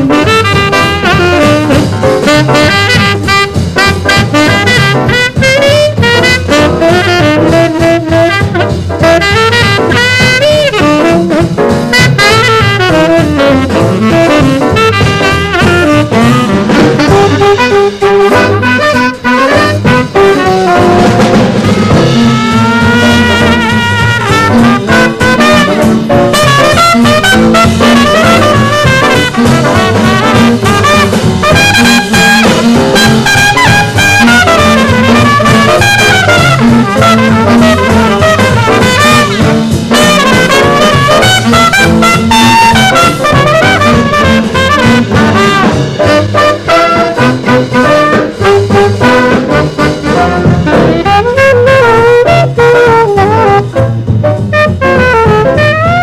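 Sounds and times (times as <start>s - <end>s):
swing jazz combo playing: 0.0s - 56.0s.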